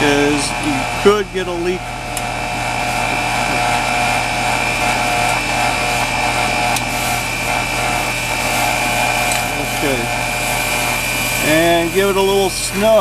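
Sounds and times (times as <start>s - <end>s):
heat pump compressor hum: 0.0s - 13.0s
high whine: 0.0s - 13.0s.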